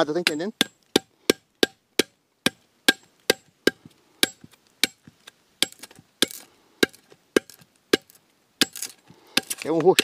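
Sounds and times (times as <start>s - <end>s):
machete chopping into log: 0.2s - 10.0s.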